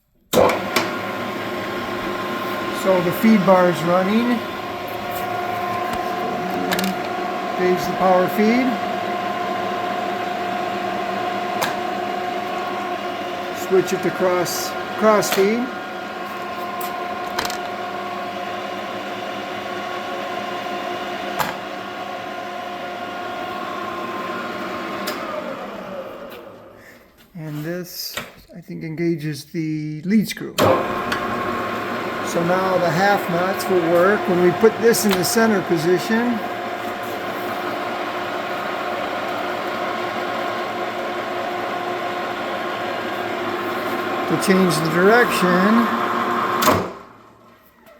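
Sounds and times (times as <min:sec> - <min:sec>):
lathe gear whine: 0:00.4 - 0:26.8, 0:30.6 - 0:47.1.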